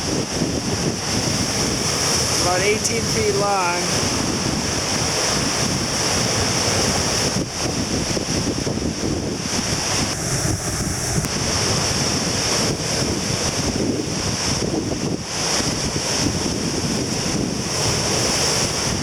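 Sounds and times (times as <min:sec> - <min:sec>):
surf breaking on shore: 0:00.0 - 0:19.0
wind buffeting microphone: 0:00.0 - 0:19.0.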